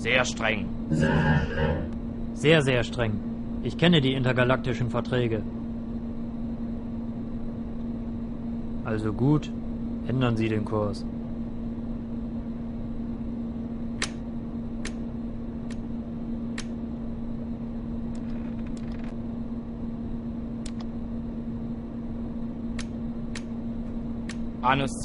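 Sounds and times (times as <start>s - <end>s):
low electronic hum: 0.0s - 25.0s.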